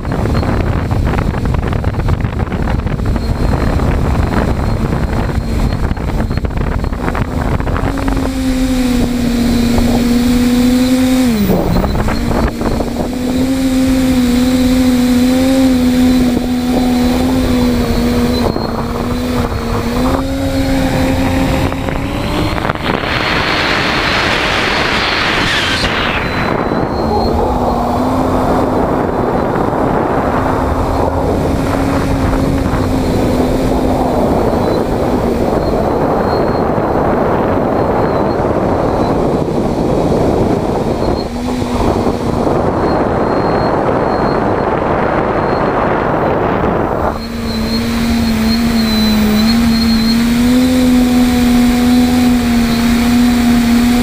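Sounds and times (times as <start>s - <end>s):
drone motors humming: 0.0s - 38.6s, 39.2s - 54.0s
rushing wind: 0.0s - 54.0s
wind noise on microphone: 0.0s - 54.0s.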